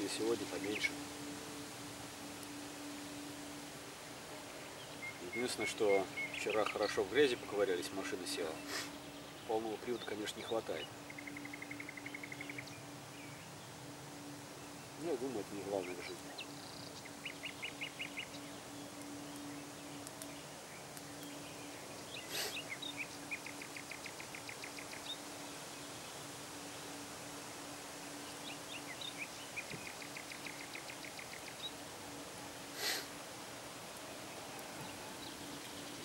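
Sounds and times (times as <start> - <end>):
faint steady hum: 0.0 - 36.0
songbirds trilling: 0.0 - 36.0.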